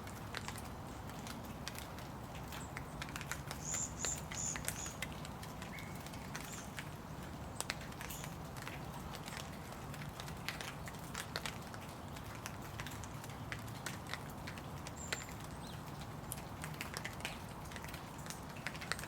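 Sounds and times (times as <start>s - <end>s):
raindrops ticking and tapping: 0.0s - 19.0s.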